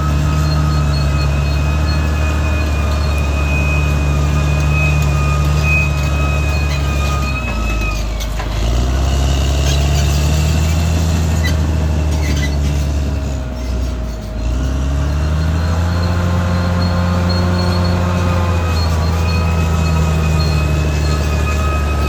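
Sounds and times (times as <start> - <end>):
bulldozer diesel engine running hard: 0.0 - 22.0.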